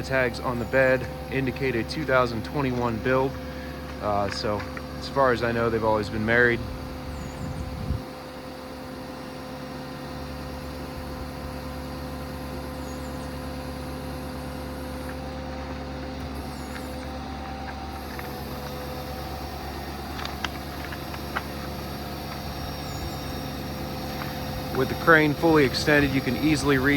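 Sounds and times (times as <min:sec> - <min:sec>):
diesel engine running: 0:00.0 - 0:26.9
hydraulic whine: 0:00.0 - 0:26.9.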